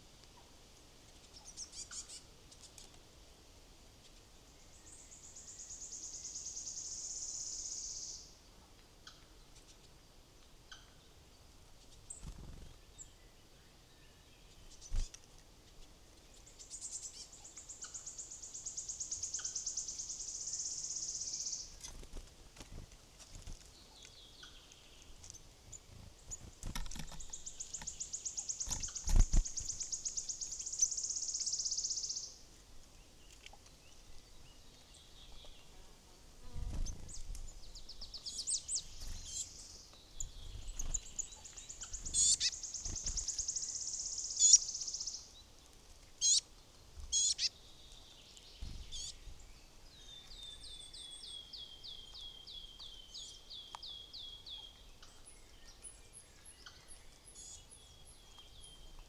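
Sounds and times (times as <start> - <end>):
songbirds singing rapid trills: 1.1 - 3.0, 4.0 - 32.4, 33.0 - 59.0.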